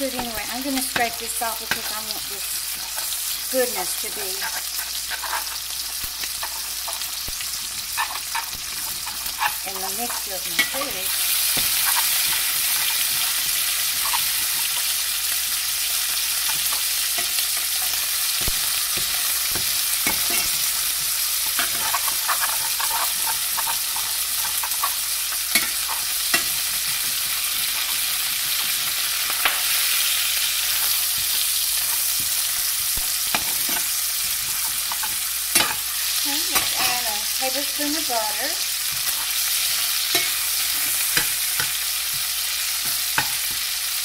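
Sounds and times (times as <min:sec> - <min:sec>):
metal spoon scraping a pan: 0:00.0 - 0:43.9
chicken sizzling in a pan: 0:00.0 - 0:44.0.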